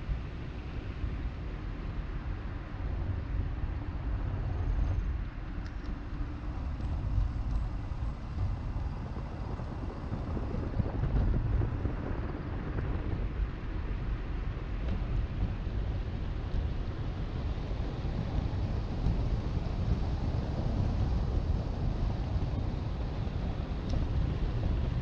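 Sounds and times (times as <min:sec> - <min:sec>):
wind noise on microphone: 0:00.0 - 0:25.0.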